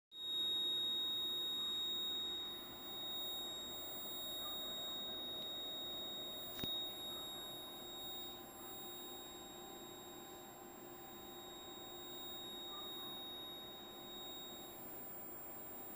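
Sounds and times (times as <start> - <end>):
high-pitched electrical whine: 0.1 - 15.9.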